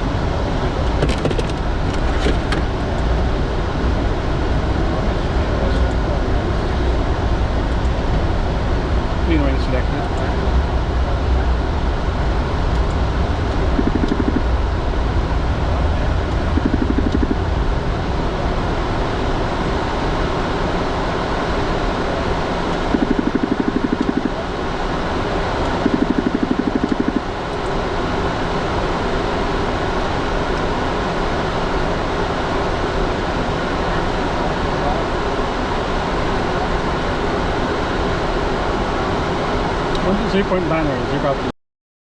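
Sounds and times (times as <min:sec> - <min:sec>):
jet cockpit air and engine noise: 0:00.0 - 0:41.5.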